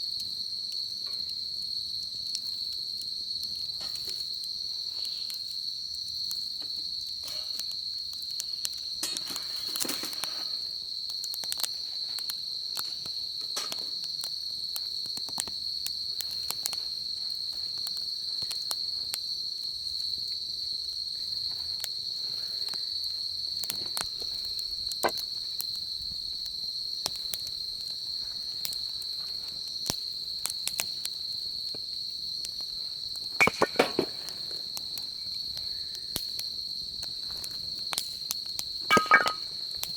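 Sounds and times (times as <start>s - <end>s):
insect chorus trilling: 0.0s - 39.9s
wood fire crackling: 0.0s - 39.9s.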